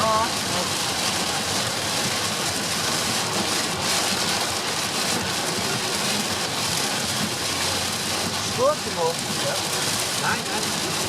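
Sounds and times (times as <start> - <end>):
heavy rain on a car: 0.0 - 11.0
tyres hissing on wet road: 0.0 - 11.0.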